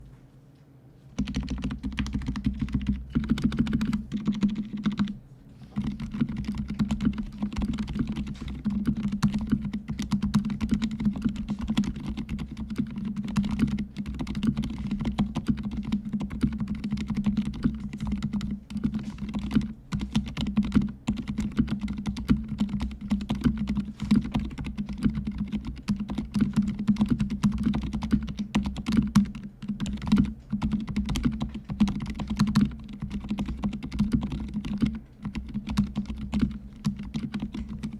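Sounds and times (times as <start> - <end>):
fast typing on mechanical keyboard: 1.2 - 37.9.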